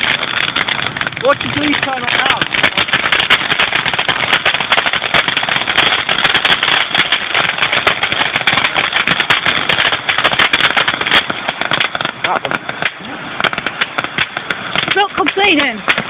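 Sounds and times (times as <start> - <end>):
firework crackling: 0.0 - 16.0.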